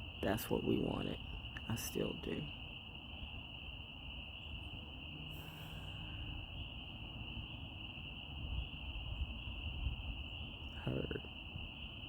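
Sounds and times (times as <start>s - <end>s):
tree frogs calling: 0.0s - 12.0s.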